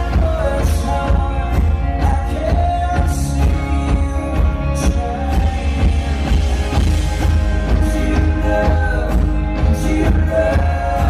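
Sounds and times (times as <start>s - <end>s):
bass guitar: 0.0s - 11.0s
drums with cymbals: 0.0s - 11.0s
electric guitars: 0.0s - 11.0s.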